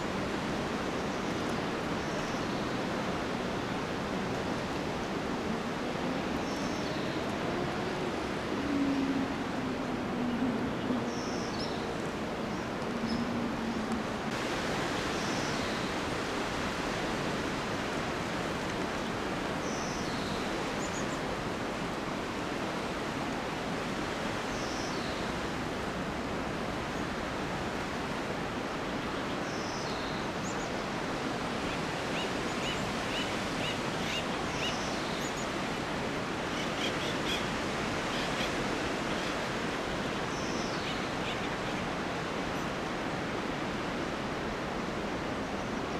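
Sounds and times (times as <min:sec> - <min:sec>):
wind through pine trees: 0:00.0 - 0:45.9.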